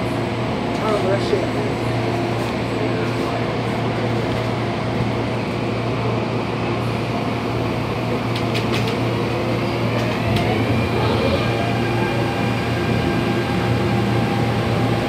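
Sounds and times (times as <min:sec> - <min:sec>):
train running and ventilation hum: 0:00.0 - 0:15.0.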